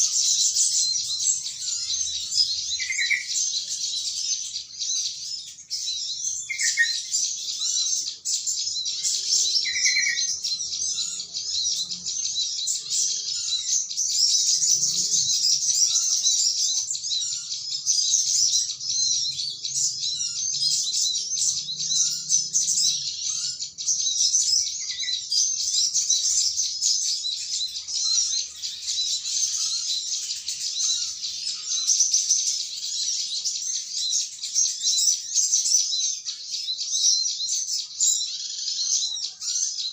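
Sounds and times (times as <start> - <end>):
flock of small birds twittering: 0.0 - 39.9.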